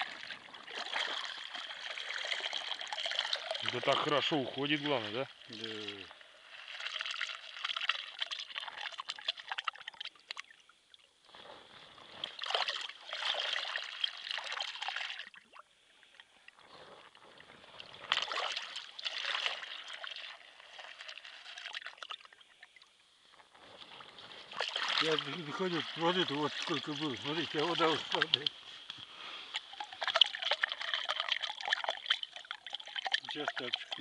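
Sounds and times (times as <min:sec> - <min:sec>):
water gurgling down a hole: 0:00.0 - 0:28.6, 0:29.5 - 0:34.0.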